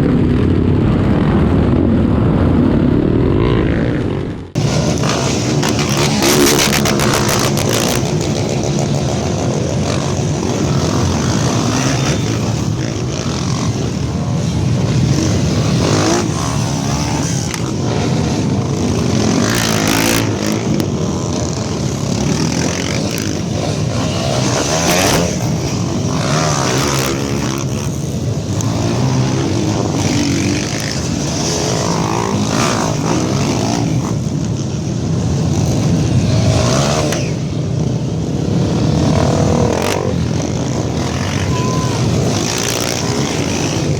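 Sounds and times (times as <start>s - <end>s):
motorcycle engines revving: 0.0s - 43.9s.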